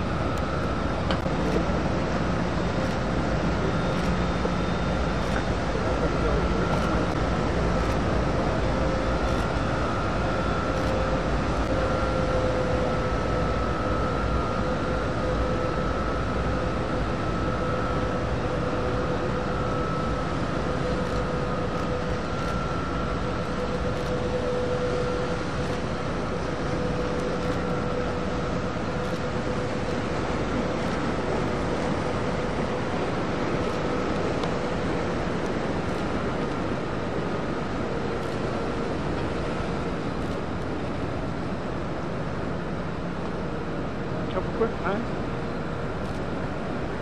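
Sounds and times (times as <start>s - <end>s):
ship machinery drone: 0.0s - 47.0s.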